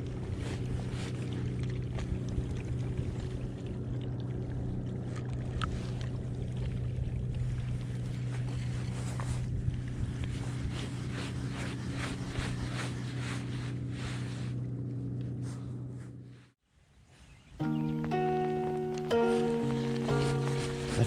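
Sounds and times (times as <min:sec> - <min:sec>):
boat motor humming: 0:00.0 - 0:16.6, 0:17.6 - 0:21.0.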